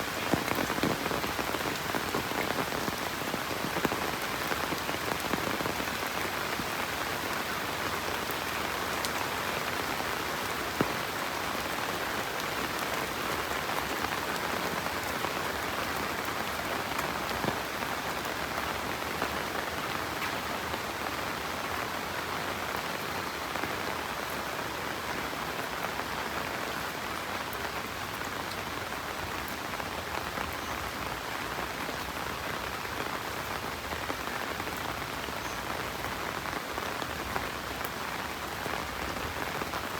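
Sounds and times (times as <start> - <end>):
loud raindrops: 0.0 - 39.9
steady rain hiss: 0.0 - 39.9.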